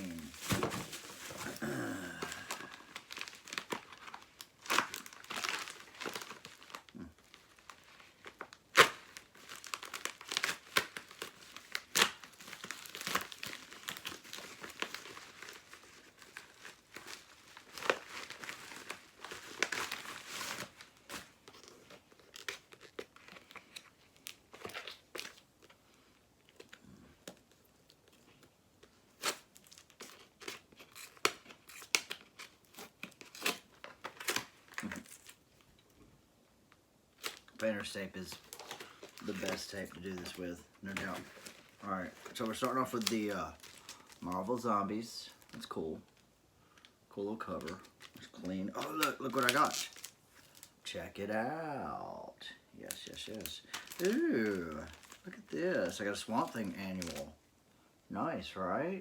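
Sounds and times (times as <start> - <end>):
packaging crinkling and tearing: 0.0 - 35.9, 37.1 - 57.4.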